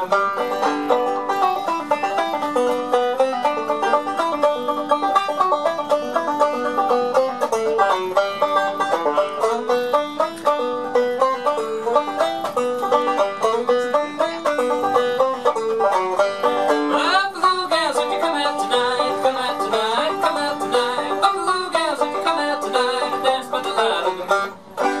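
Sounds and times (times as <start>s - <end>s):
banjo bluegrass tune: 0.0s - 25.0s.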